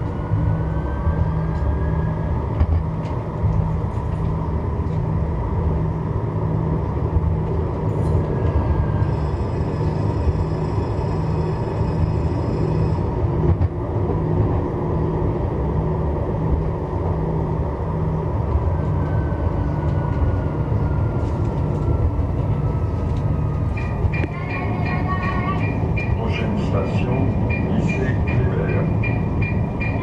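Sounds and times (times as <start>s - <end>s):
tram wheels rumbling on rail: 0.0s - 30.0s.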